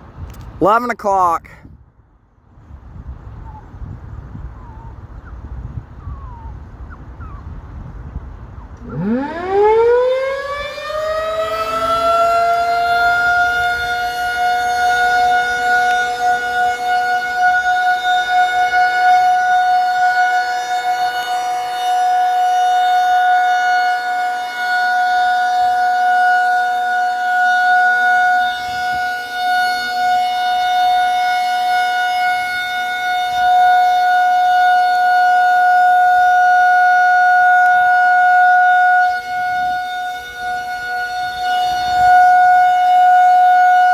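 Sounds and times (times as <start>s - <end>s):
warning siren: 3.4s - 43.9s.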